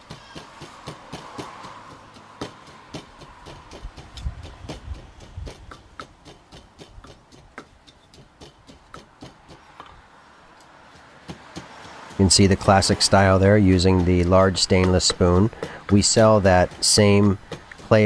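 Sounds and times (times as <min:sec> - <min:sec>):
pestle pounding in mortar: 0:00.0 - 0:18.0.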